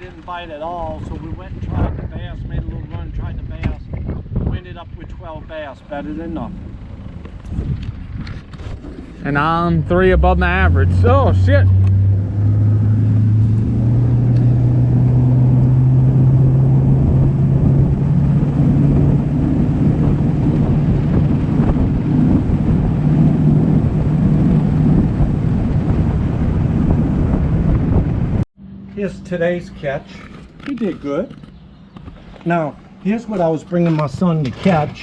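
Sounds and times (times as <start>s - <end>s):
outboard motor running: 5.7s - 35.0s.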